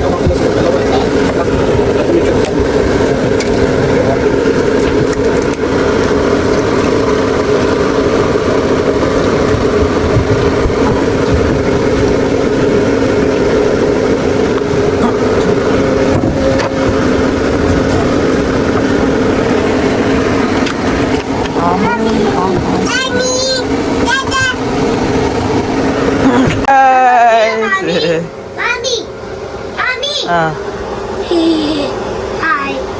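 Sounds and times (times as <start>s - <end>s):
motor humming: 0.0s - 32.9s.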